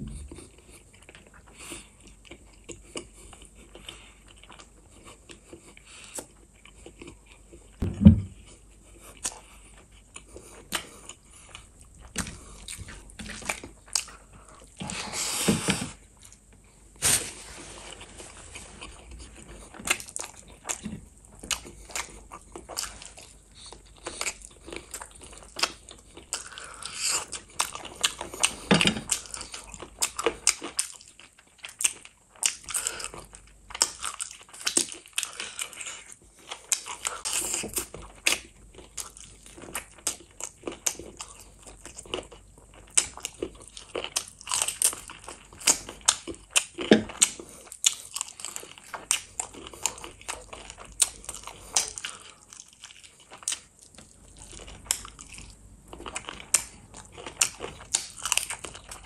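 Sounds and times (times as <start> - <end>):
person chewing with wet smacks: 0.0 - 16.7, 18.0 - 59.0.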